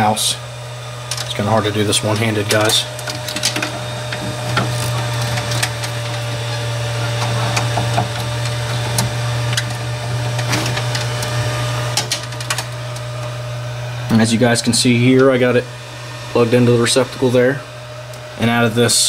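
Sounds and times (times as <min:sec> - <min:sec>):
power inverter humming: 0:00.0 - 0:19.0.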